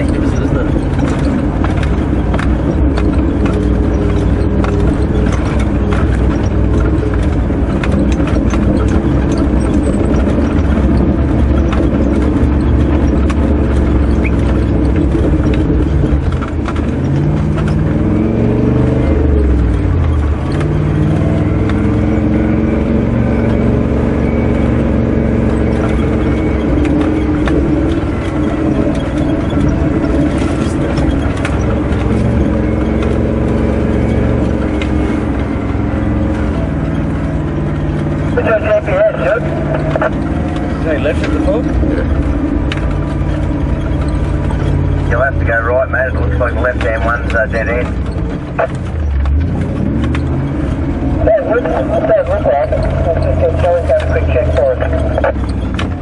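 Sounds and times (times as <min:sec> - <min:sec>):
body rattles and knocks: 0:00.0 - 0:56.0
engine running under load: 0:00.0 - 0:56.0.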